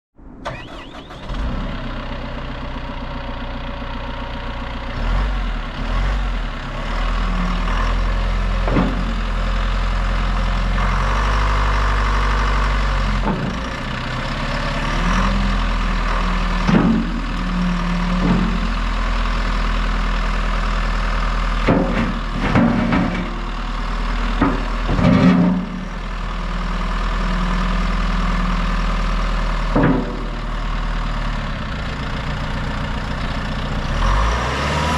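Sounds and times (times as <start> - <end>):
diesel engine running: 0.2 - 34.9.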